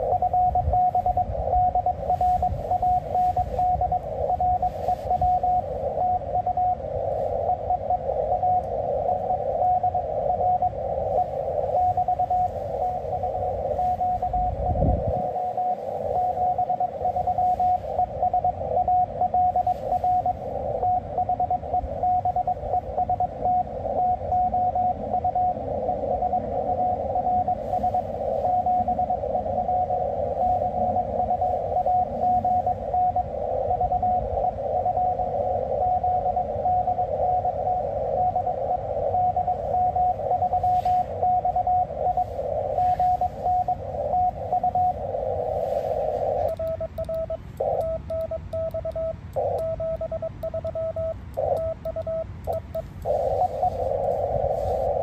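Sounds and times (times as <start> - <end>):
morse code tone: 0.0 - 55.0
radio band hiss: 0.0 - 55.0.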